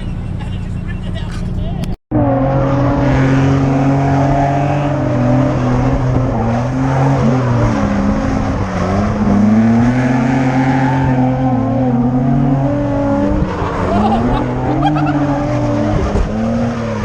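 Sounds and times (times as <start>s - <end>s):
car engine at high revs: 2.1s - 17.0s.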